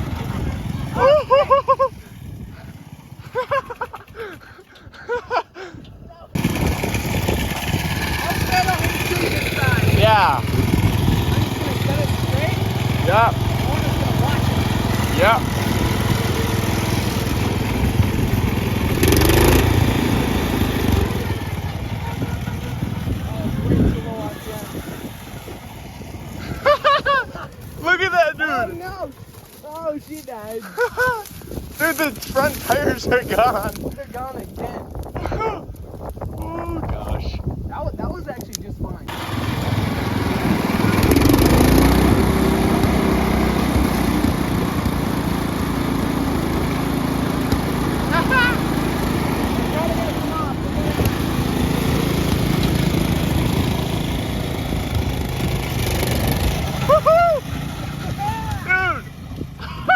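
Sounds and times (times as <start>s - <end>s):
riding lawn tractor engine: 0.0s - 5.2s, 6.3s - 35.1s, 35.8s - 59.9s.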